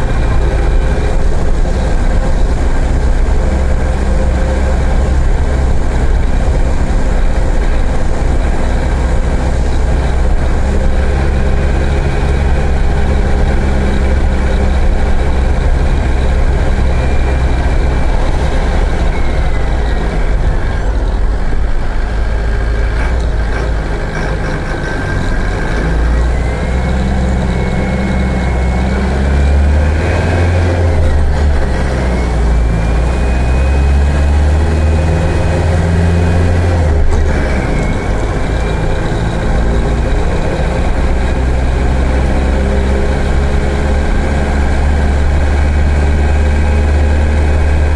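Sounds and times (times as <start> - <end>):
bus diesel engine under load: 0.0 - 47.9.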